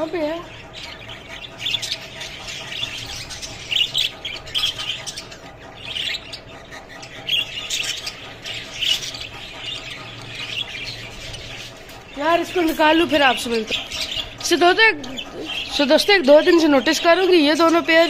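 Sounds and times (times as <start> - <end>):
budgerigars chirping and chattering: 0.0 - 18.0.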